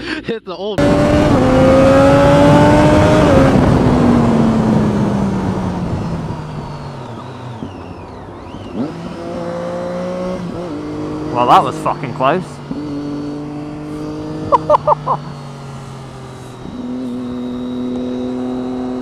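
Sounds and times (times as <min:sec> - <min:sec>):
motorcycle engine at high revs: 0:00.8 - 0:19.0.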